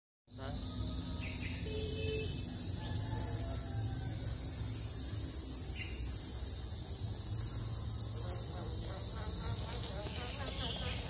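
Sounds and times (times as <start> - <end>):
high-pitched buzz: 0.3 - 11.0.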